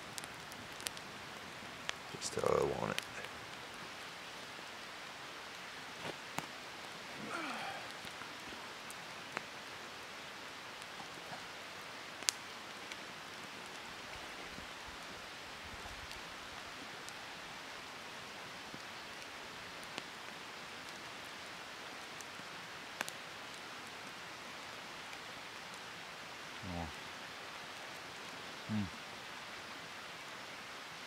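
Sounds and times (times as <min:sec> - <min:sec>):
soft outdoor hiss: 0:00.0 - 0:31.0.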